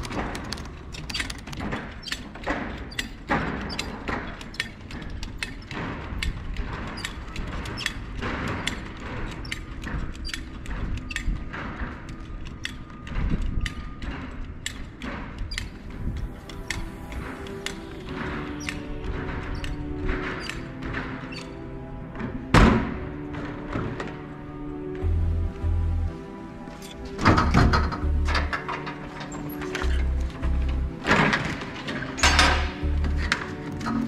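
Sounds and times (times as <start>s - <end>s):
metallic clicks of buckles and straps: 0.0s - 21.6s, 26.7s - 34.0s.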